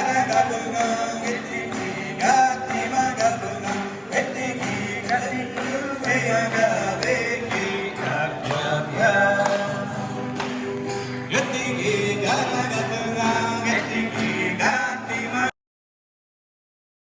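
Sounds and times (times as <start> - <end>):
man singing: 0.0 - 15.6.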